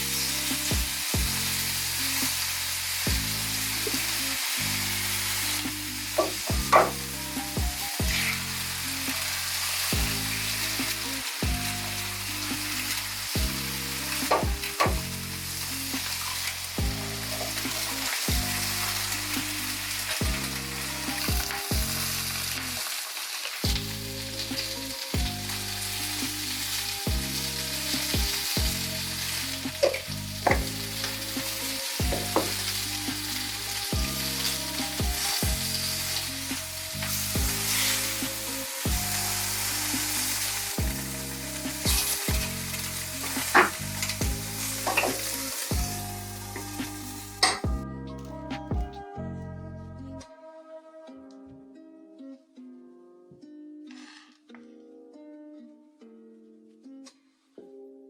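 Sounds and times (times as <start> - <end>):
food sizzling in a pan: 0.0 - 47.7
background music with a beat: 0.0 - 52.0.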